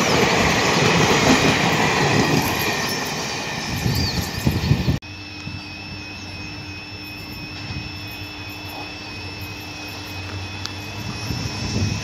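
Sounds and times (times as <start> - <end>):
locomotive engine hum: 0.0 - 12.0
high whine: 2.1 - 12.0.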